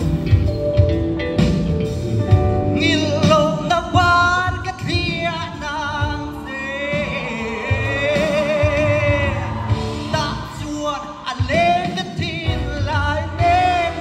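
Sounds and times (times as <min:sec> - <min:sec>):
backing music with steady beat: 0:00.0 - 0:14.0
man singing into microphone: 0:02.7 - 0:14.0.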